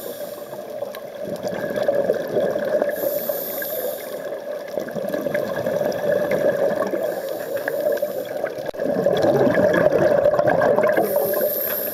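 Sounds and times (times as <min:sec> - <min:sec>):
muffled underwater rushing: 0:00.0 - 0:11.9
scuba regulator bubbling: 0:00.0 - 0:11.9.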